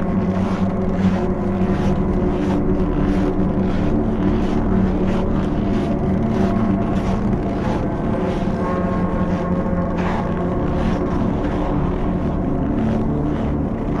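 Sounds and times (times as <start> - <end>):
low droning chord: 0.0 - 14.0.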